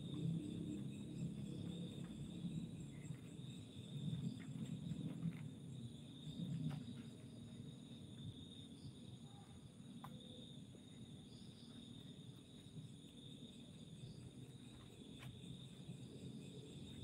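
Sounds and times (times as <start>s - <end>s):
crickets and insects chirring: 0.0s - 17.0s.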